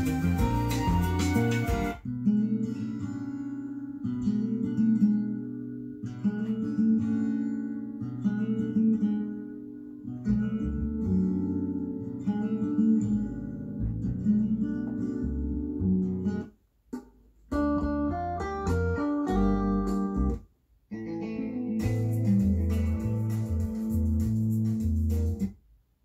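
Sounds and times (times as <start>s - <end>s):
strummed acoustic guitar: 0.0s - 20.4s, 21.0s - 25.4s.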